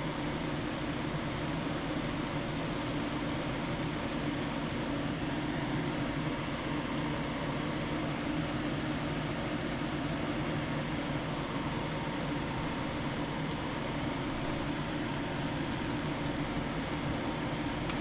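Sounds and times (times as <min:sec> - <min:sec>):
mechanical hum with hiss: 0:00.0 - 0:18.0.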